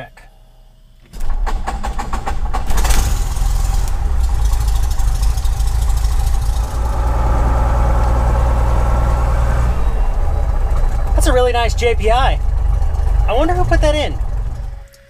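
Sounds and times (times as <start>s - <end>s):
piston engine starting and idling: 1.0s - 15.0s.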